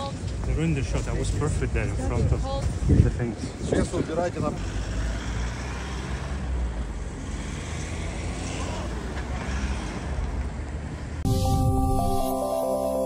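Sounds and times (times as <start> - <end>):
van engines rumbling: 0.0 - 11.3.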